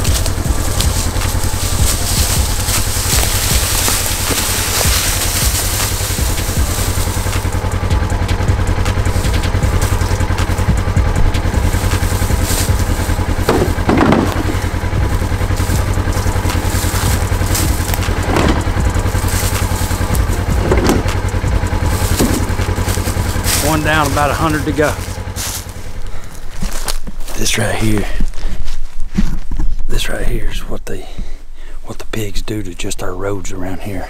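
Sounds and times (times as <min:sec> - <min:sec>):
vehicle bumps: 0:00.0 - 0:27.3
vehicle engine running: 0:00.0 - 0:34.0.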